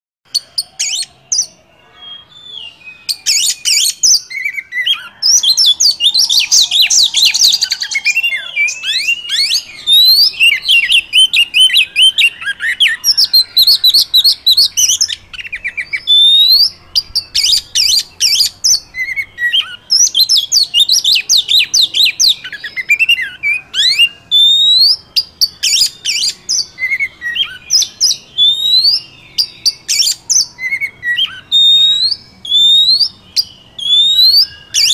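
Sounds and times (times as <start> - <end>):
songbird singing: 0.2 - 34.9.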